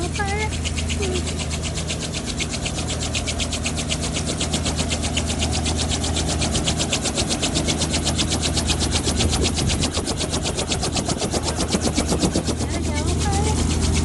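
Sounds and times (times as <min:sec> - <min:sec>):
helicopter engine and rotor chopping: 0:00.0 - 0:14.0.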